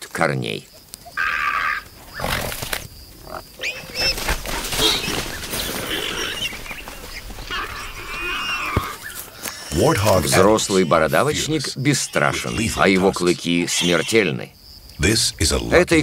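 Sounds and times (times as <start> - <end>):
warthogs squealing: 1.1 - 14.4.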